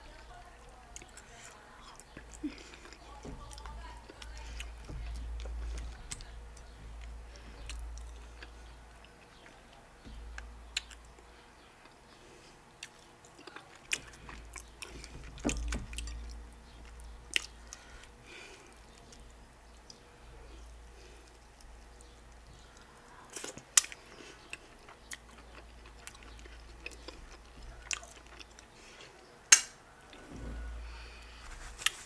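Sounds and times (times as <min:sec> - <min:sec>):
close chewing: 0:00.0 - 0:32.0.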